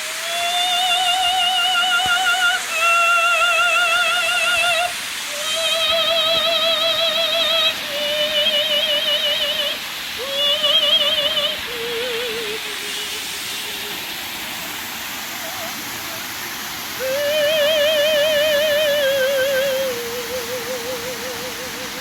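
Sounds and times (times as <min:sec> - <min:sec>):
soprano singing with vibrato: 0:00.0 - 0:14.1, 0:15.3 - 0:22.0
waterfall rushing: 0:00.0 - 0:22.0.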